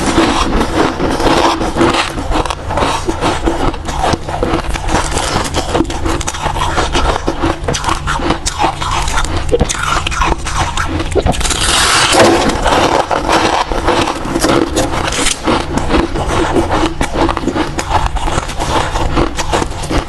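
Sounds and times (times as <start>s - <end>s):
ice crunching being chewed: 0.0s - 20.0s.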